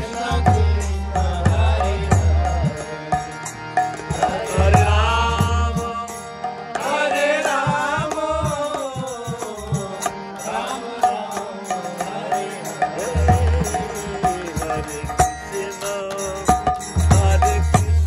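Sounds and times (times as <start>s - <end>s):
harmonium chords: 0.0s - 18.0s
man singing a chant: 0.0s - 18.0s.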